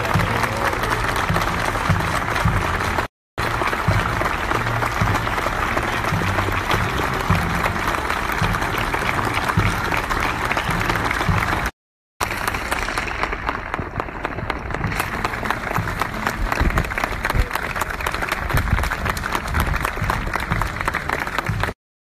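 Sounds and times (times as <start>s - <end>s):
crowd applauding: 0.0s - 21.8s.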